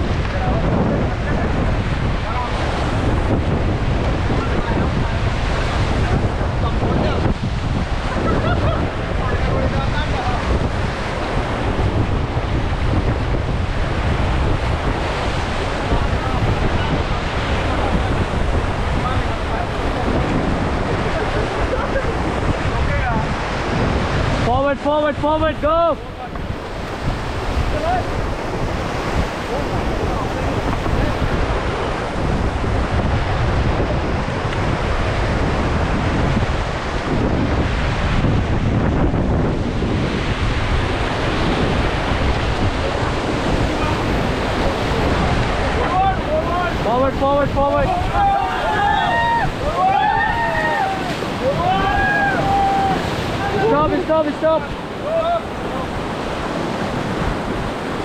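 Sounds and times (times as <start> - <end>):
rushing river water: 0.0 - 58.0
wind rumbling on microphone: 0.0 - 58.0.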